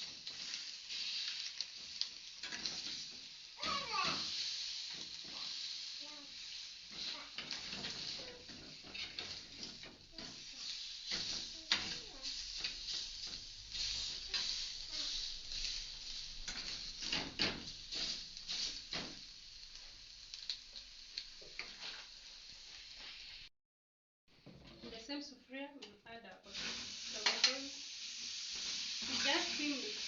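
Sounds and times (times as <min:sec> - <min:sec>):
bacon sizzling in a pan: 0:00.0 - 0:23.5, 0:26.4 - 0:30.0.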